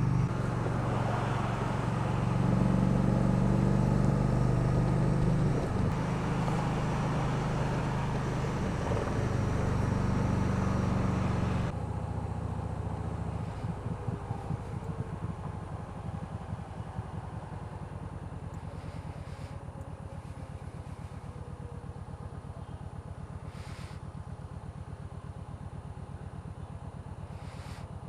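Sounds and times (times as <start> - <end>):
wind and road noise: 0.0 - 24.9
motorcycle engine running: 0.0 - 28.0.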